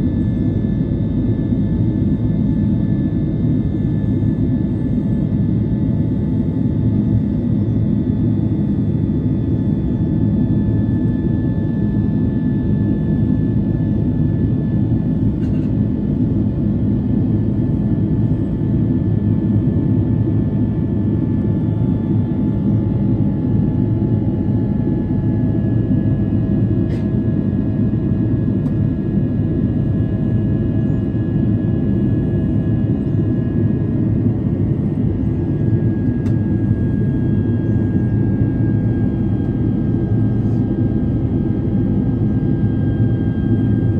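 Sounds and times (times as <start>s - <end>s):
jet cabin engine drone: 0.0s - 43.9s.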